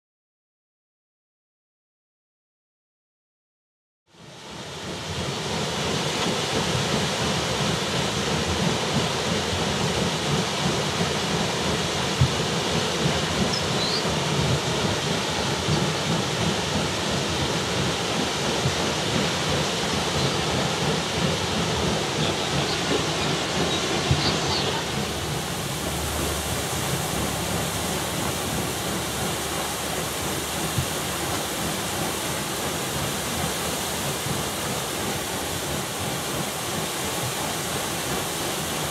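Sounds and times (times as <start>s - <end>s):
water splashing at waterwheel: 4.2s - 38.9s
waterwheel knocks: 5.4s - 38.9s.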